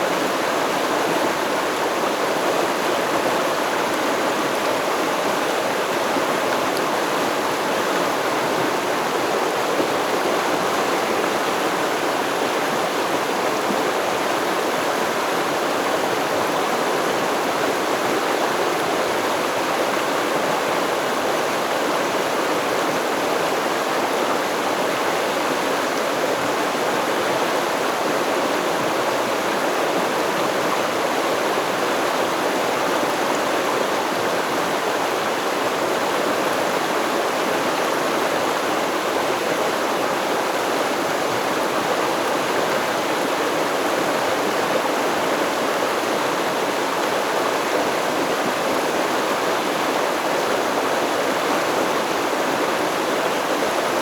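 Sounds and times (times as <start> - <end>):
stream babbling over rocks: 0.0 - 54.0.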